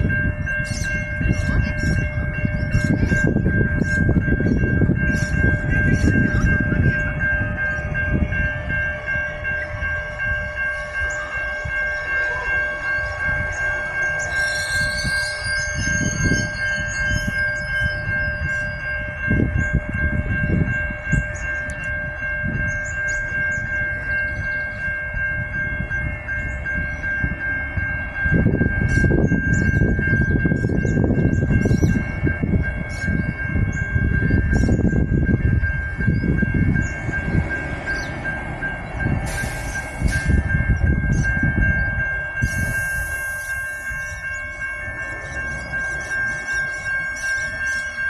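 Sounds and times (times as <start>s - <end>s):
electric train whine: 0.0s - 48.0s.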